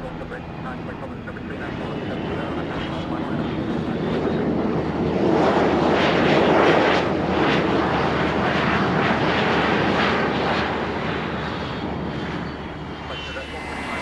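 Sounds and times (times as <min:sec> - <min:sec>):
airplane passing: 0:00.0 - 0:14.0.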